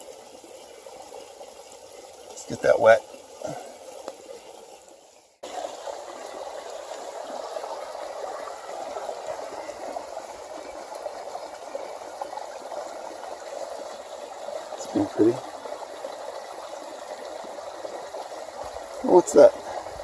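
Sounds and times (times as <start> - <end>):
creek water bubbling: 0.0 - 20.0.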